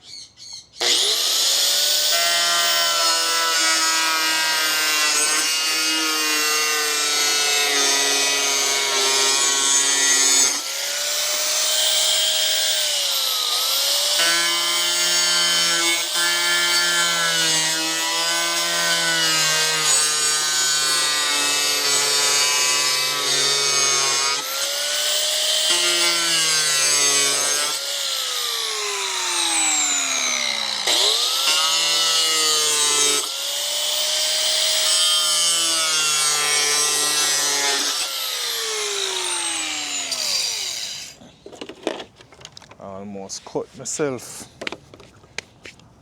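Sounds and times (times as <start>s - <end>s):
power tool cutting plastic: 0.8s - 42.0s.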